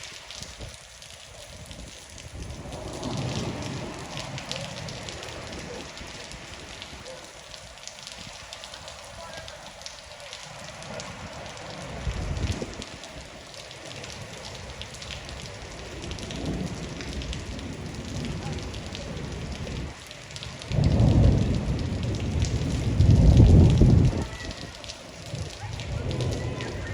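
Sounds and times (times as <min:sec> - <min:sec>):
rain pattering: 0:00.0 - 0:26.9.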